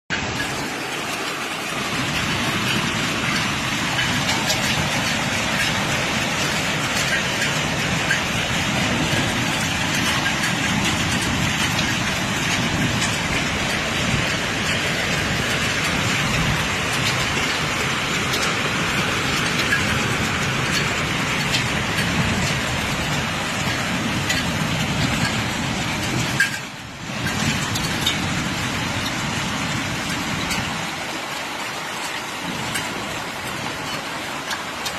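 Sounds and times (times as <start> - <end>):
rain falling: 0.1 - 34.9
vehicles on wet roads: 0.1 - 34.9.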